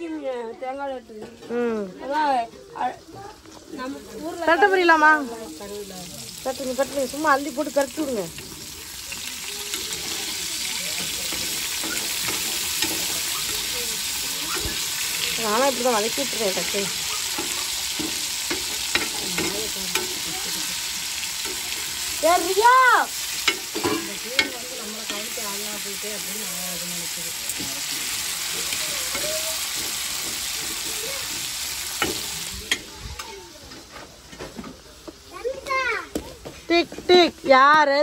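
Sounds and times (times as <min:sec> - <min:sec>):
prawns sizzling in oil: 0:00.0 - 0:38.0.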